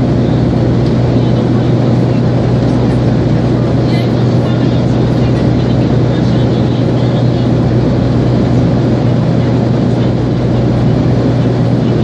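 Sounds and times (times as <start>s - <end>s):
airliner cabin engine drone: 0.0s - 12.0s.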